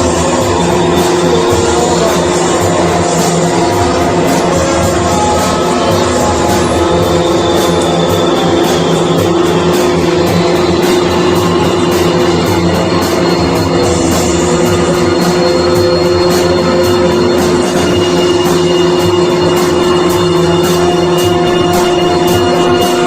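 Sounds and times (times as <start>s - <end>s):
droning rock jam: 0.0s - 23.0s.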